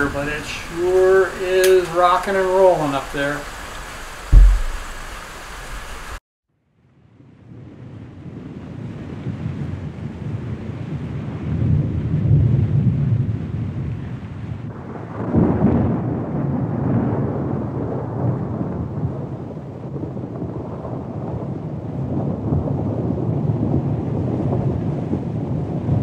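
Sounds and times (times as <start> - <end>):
rolling thunder: 0.0 - 3.6, 4.2 - 5.2, 7.4 - 26.0.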